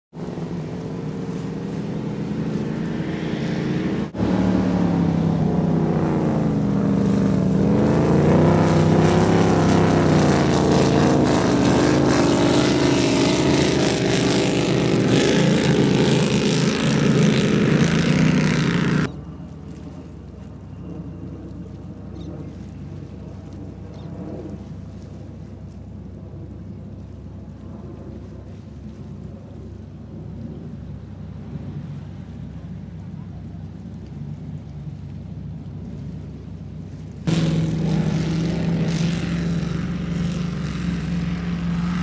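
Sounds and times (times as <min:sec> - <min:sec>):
powerboat engines droning: 0:00.1 - 0:42.0
wind and water wash: 0:00.1 - 0:42.0.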